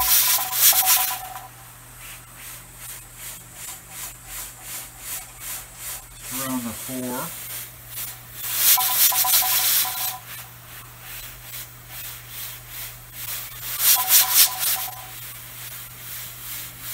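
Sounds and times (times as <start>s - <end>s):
steam hissing: 0.0s - 16.9s.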